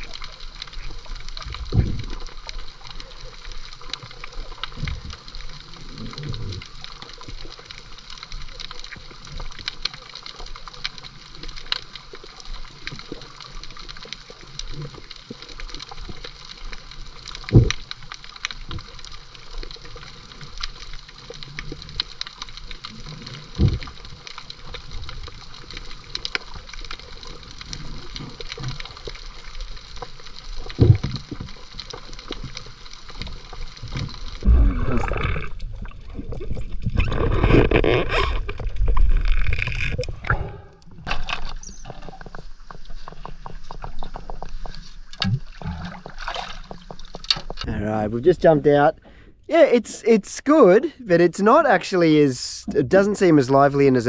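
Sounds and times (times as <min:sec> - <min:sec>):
bubbling and splashing water: 0:00.0 - 0:47.8.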